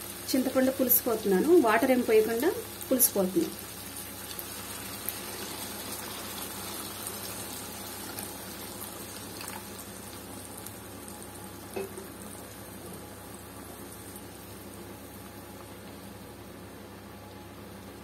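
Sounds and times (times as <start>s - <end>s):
bubbling in a pan: 0.0s - 18.0s.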